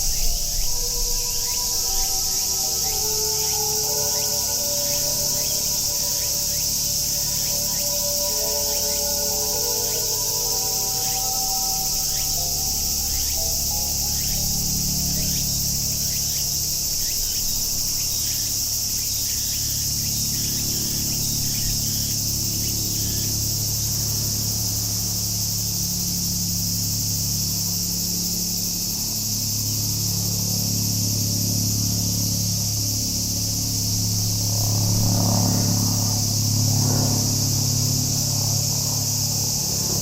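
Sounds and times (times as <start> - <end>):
cicadas chorus: 0.0 - 40.0
distant engine hum: 0.0 - 40.0.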